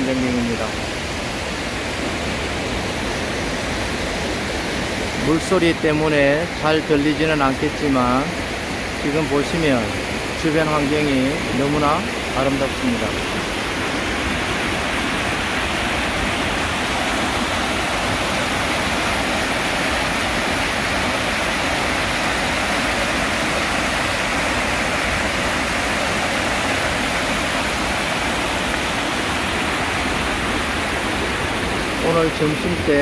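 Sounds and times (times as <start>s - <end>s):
water rushing over a weir: 0.0s - 33.0s.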